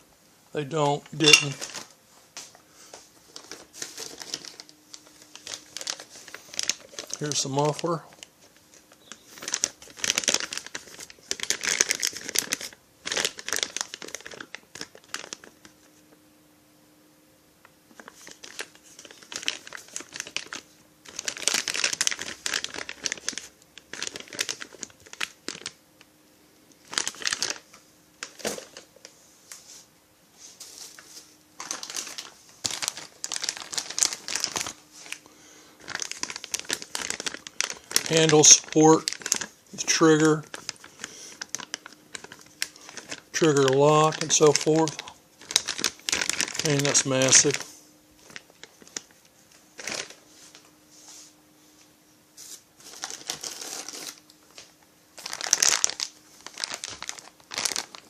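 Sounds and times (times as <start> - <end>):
packaging crinkling and rustling: 0.7 - 15.9, 17.9 - 25.8, 26.8 - 29.7, 30.5 - 50.8, 52.4 - 58.0.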